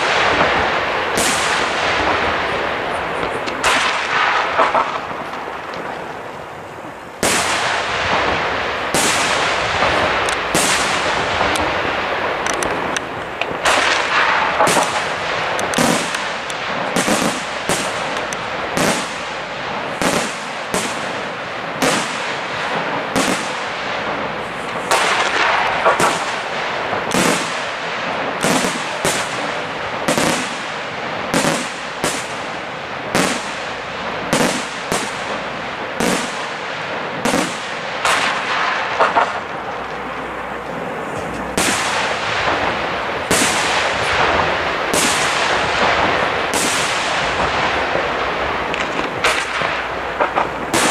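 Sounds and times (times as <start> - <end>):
continuous noisy wash: 0.0 - 50.9
firework shells bursting: 0.0 - 50.9.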